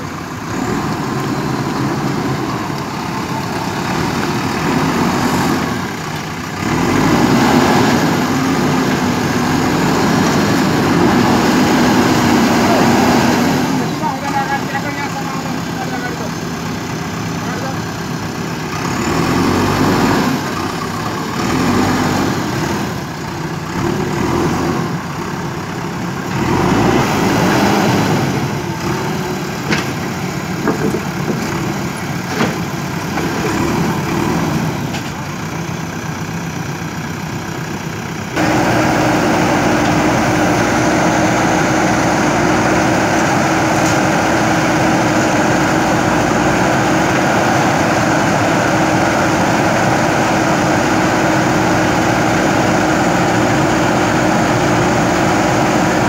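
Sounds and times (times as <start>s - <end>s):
diesel engine running: 0.0s - 56.0s
loud steady engine drone: 0.0s - 56.0s.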